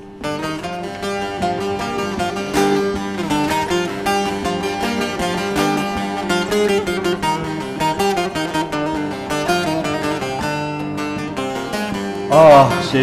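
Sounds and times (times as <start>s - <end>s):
long-necked lute picked melody: 0.0s - 13.0s.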